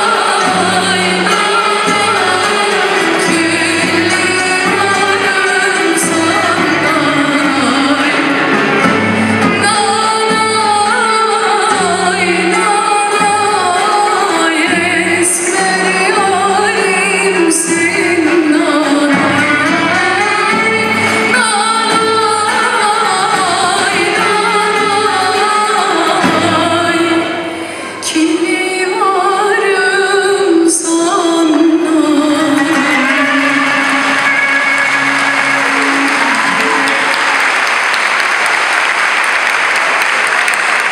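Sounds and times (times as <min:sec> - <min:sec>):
woman singing: 0:00.0 - 0:37.4
folk ensemble with percussion: 0:00.0 - 0:40.9.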